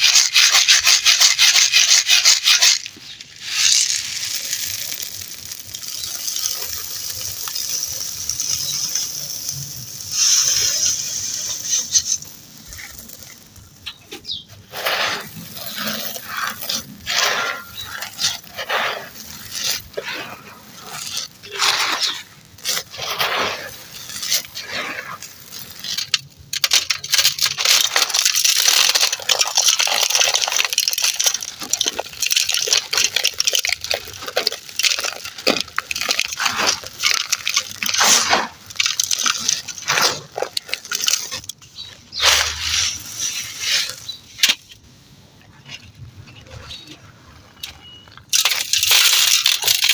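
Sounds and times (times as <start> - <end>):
dry earth crumbling and crunching: 0.0 - 49.9.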